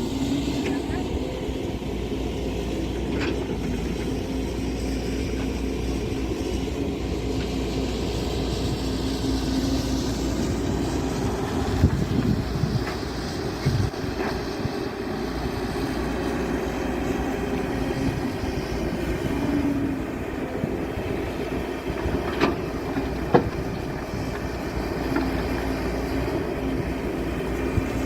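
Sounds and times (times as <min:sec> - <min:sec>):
machinery engine rumbling: 0:00.0 - 0:28.0.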